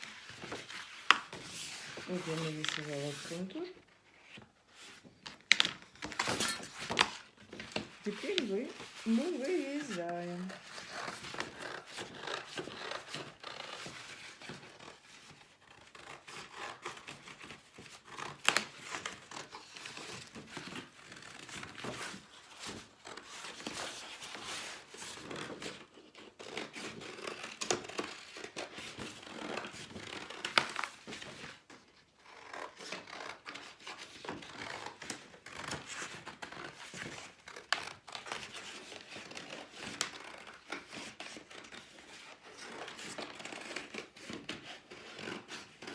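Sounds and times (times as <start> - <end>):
cardboard rustling and crinkling: 0.0 - 45.9.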